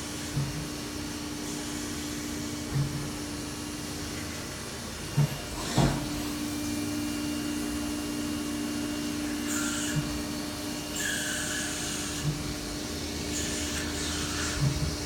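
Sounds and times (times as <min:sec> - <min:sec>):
milling machine spindle hum: 0:00.0 - 0:15.0.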